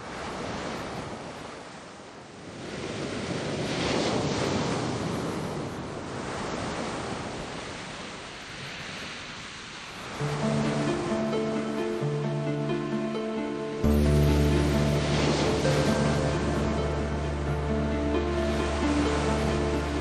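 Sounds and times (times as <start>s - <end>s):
sea waves washing: 0.0s - 20.0s.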